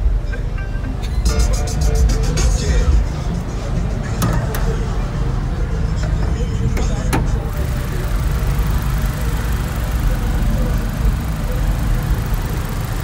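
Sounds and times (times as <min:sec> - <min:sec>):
car engine idling: 0:01.3 - 0:13.0.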